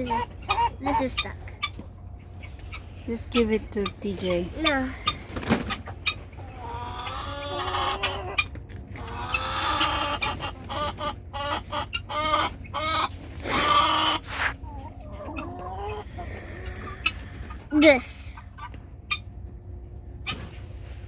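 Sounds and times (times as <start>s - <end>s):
chicken clucking: 0.0s - 20.6s.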